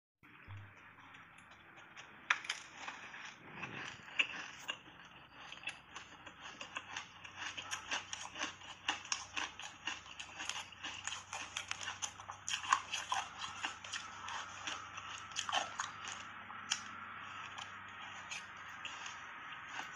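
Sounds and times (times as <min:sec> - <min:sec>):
chewing crunchy ice: 0:00.6 - 0:19.9.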